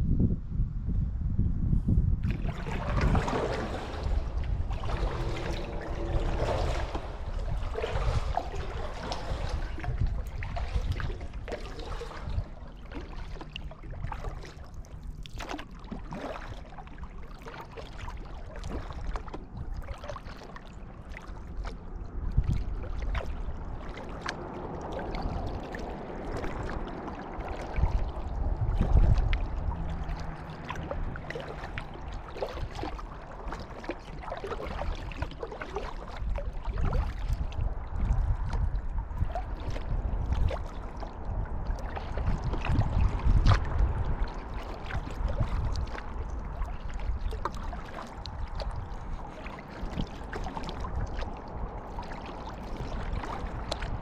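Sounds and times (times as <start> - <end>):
paddle pulling through water: 2.2 - 54.0
water dripping and lapping: 2.2 - 54.0.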